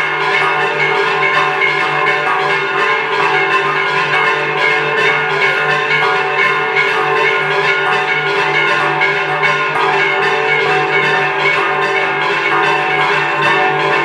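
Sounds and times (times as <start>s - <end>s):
bells ringing: 0.0s - 14.0s.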